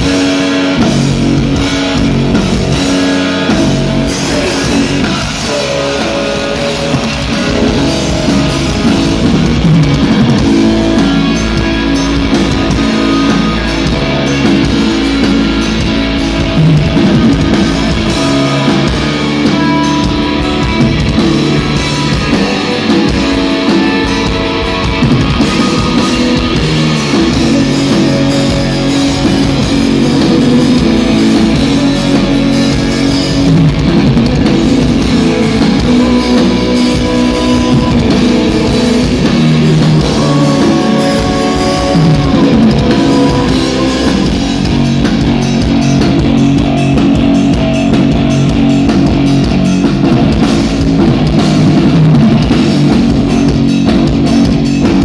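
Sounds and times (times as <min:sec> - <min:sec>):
metal band playing live: 0:00.0 - 0:55.0.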